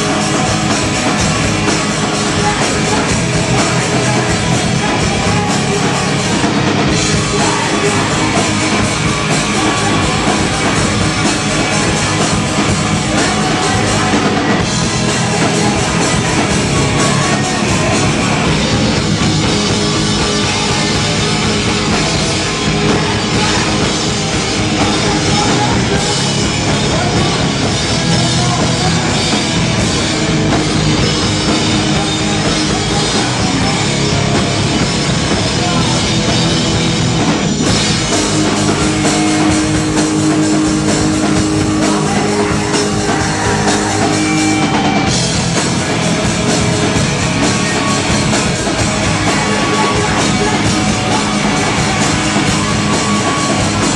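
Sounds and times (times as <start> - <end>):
punk band playing live: 0.0 - 53.9.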